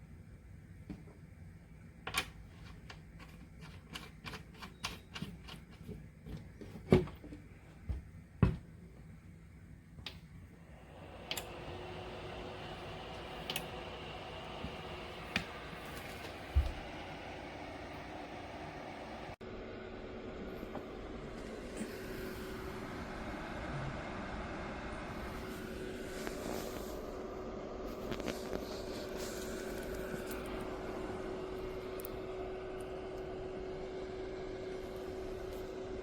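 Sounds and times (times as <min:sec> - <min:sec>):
space heater fan whooshing: 0:00.0 - 0:36.0.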